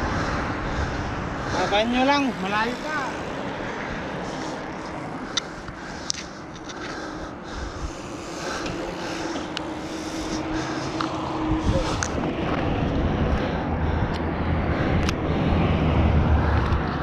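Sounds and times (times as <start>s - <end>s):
wind and bicycle tyre noise: 0.0s - 17.0s.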